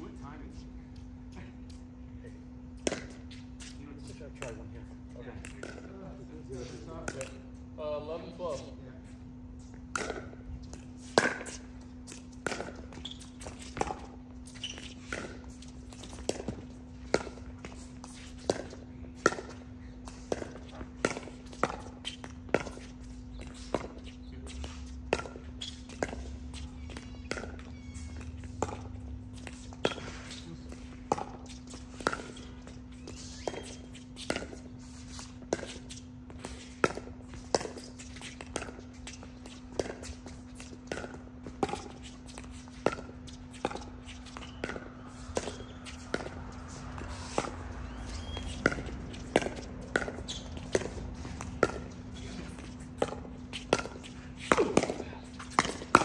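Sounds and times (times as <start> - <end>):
paddles hitting plastic ball: 9.8 - 56.0.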